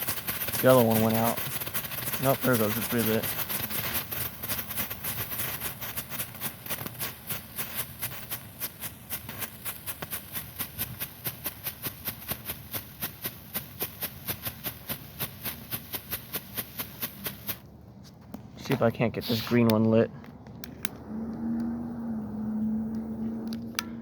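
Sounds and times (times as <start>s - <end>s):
strobe fireworks popping: 0.0s - 24.0s.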